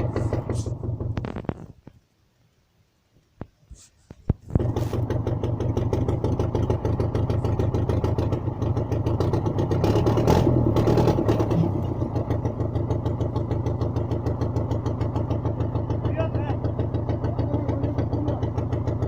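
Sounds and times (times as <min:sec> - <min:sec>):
tracked vehicle engine idling: 0:00.0 - 0:01.5, 0:04.4 - 0:19.0.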